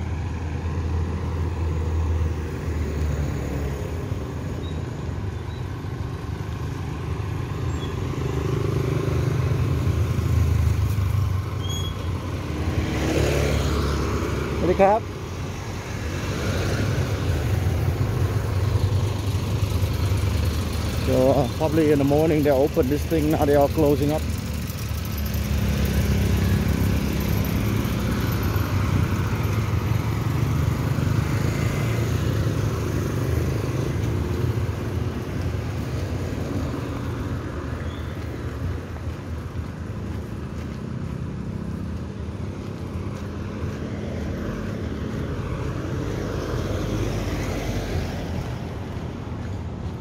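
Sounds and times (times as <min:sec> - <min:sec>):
cars passing: 0:00.0 - 0:50.0
motorcycles passing: 0:00.0 - 0:50.0.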